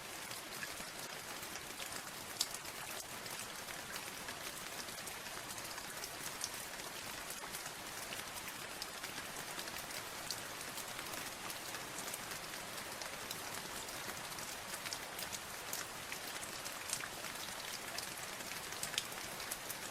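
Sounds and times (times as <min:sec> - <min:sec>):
raindrops pattering on a surface: 0:00.0 - 0:19.9
steady rain: 0:00.0 - 0:19.9.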